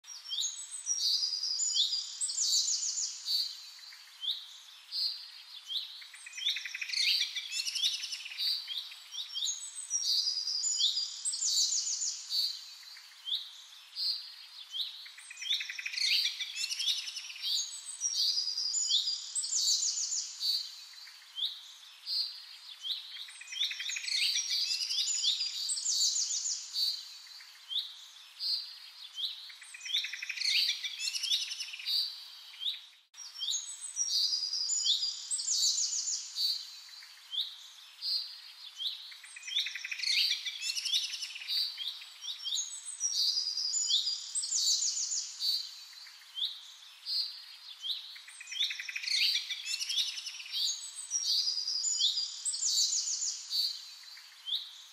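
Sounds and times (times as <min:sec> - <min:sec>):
birds chirping and trilling: 0:00.1 - 0:54.9.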